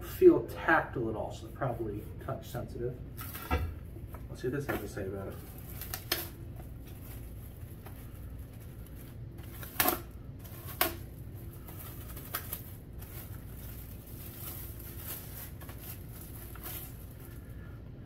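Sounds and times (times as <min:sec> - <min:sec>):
steady low hum: 0:00.0 - 0:18.0
plastic bag rustling: 0:03.1 - 0:17.8.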